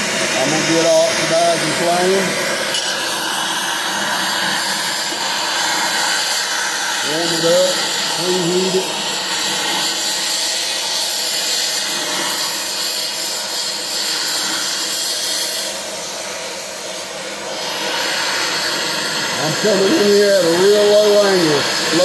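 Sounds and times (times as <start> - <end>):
cutting torch flame hissing: 0.0 - 22.0.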